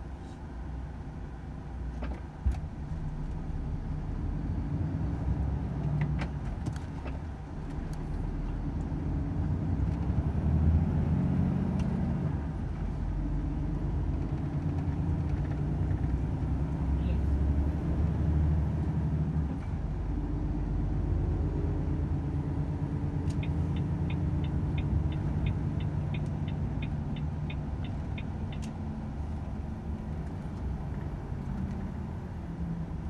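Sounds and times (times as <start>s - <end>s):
truck diesel engine drone: 0.0s - 33.0s.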